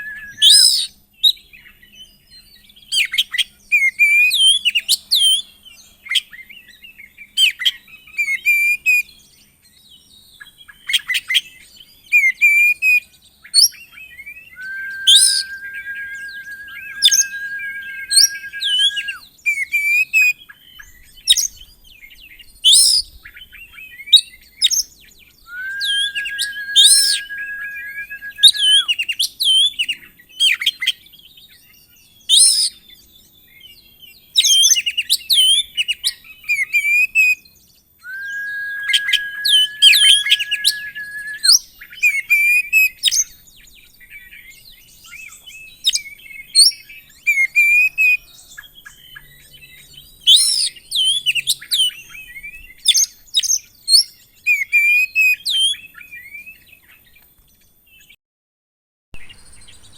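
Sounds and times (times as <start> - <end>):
bird singing whistles and chirps: 0.0 - 5.5, 6.5 - 20.1, 20.7 - 29.8, 36.6 - 57.2.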